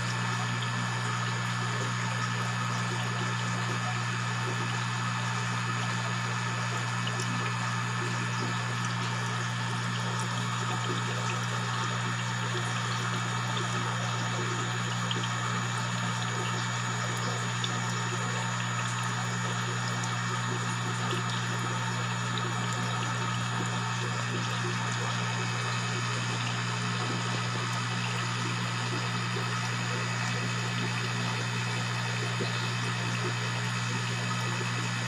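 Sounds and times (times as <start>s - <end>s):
aquarium pump hum: 0.0s - 35.0s.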